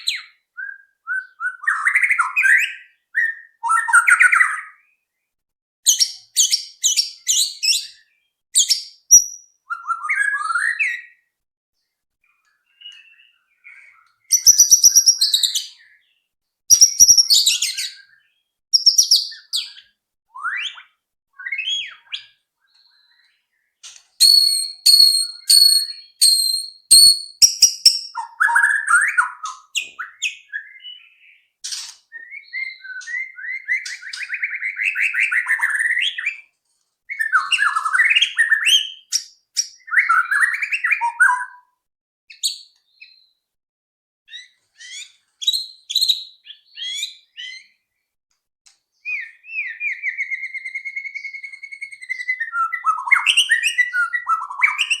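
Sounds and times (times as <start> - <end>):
bird singing whistled phrases: 0.0 - 4.9, 5.9 - 11.2, 12.7 - 16.1, 16.7 - 23.4, 24.2 - 31.5, 32.1 - 36.5, 37.1 - 43.3, 44.3 - 47.8, 49.0 - 55.0.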